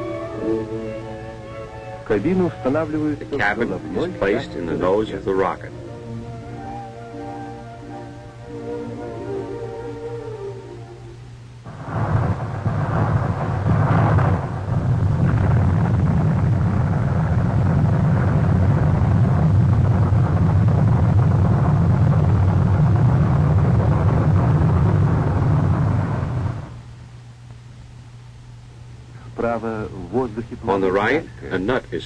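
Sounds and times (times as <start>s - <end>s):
rocket engine rumbling: 0.0s - 26.9s.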